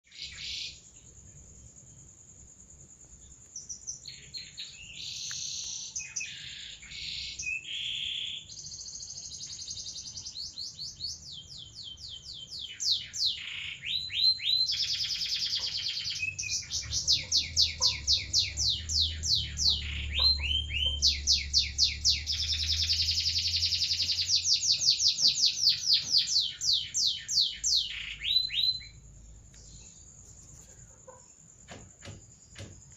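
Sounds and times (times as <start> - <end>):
canary singing: 3.6 - 31.3.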